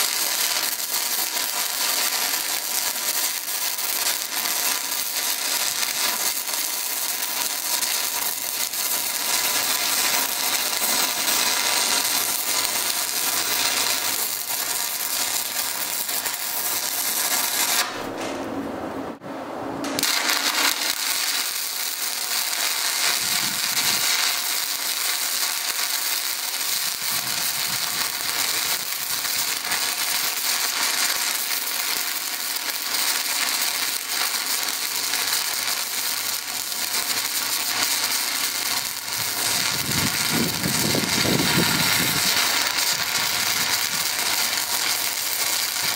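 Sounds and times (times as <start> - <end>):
welding arc crackling: 0.0 - 18.3, 19.8 - 45.9.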